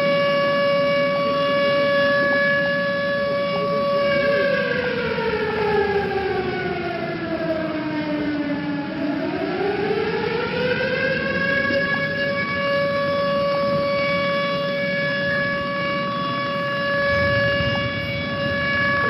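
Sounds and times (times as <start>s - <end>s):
warning siren sliding tone: 0.0s - 19.0s.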